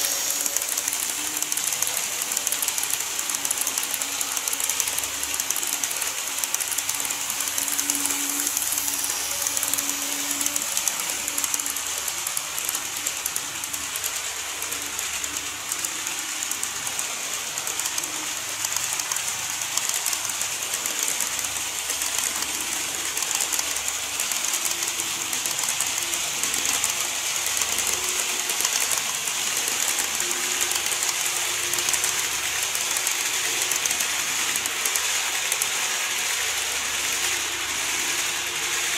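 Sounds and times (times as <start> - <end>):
faint electric motor hum: 0.0 - 38.9
model train wheels rattling: 0.0 - 38.9.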